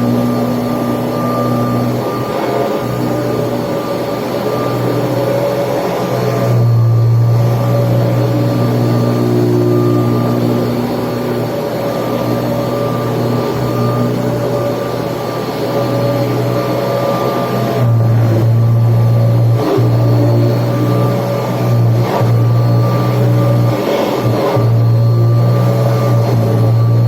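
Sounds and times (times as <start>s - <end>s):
upright vacuum cleaner running: 0.0s - 27.0s.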